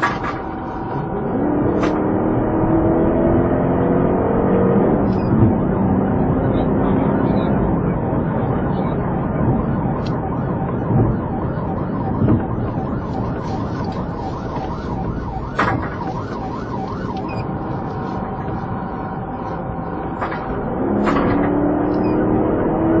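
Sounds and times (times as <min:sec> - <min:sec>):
police siren: 0:00.0 - 0:23.0
road and engine noise: 0:00.0 - 0:23.0.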